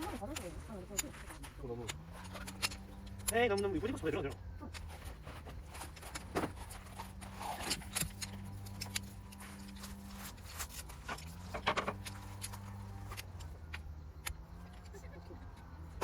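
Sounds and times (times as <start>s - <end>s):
low hum: 0.0s - 16.0s
objects clicking and clattering: 0.0s - 16.0s.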